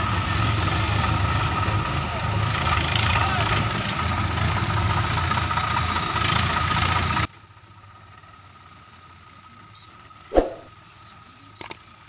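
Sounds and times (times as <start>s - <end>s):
backhoe loader engine: 0.0s - 10.2s
tractor diesel engine: 0.0s - 12.0s.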